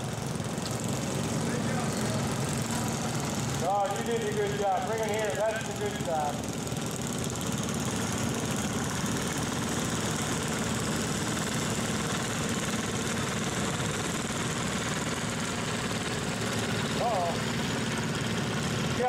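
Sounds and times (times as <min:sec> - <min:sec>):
garden tractor engines running: 0:00.0 - 0:19.0.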